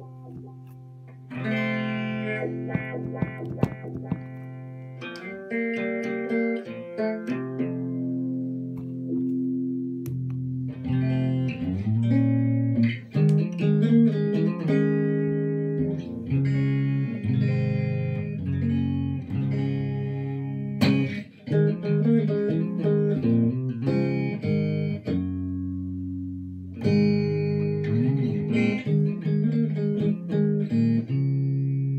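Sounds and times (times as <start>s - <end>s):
electric guitar through wah-wah pedal: 0.0s - 31.9s.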